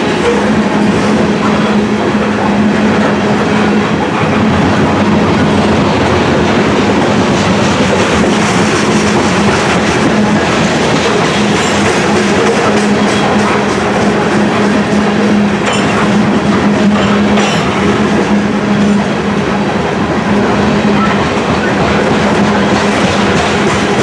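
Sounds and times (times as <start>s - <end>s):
steel wheels rumbling on rail: 0.0s - 24.0s
wheels clacking over rail joints: 0.0s - 24.0s.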